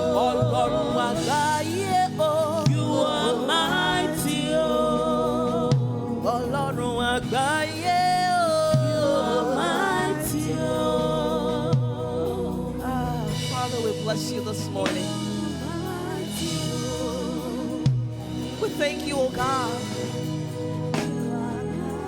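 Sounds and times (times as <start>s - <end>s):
group of singers: 0.0s - 22.0s
instrumental accompaniment: 0.0s - 22.0s
lead singer: 0.0s - 22.0s.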